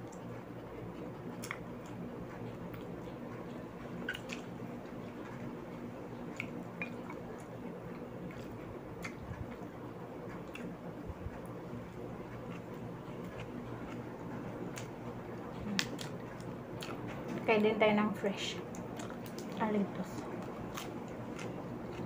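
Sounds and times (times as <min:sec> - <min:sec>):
mouth chewing with wet smacks: 0:00.0 - 0:17.5, 0:18.6 - 0:22.0
steady low hum: 0:00.0 - 0:22.0.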